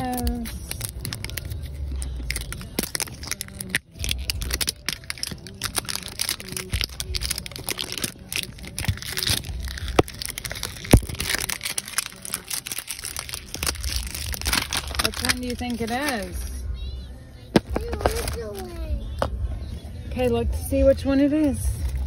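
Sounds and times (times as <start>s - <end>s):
plastic wrapping crinkling: 0.0s - 16.6s, 17.6s - 18.9s.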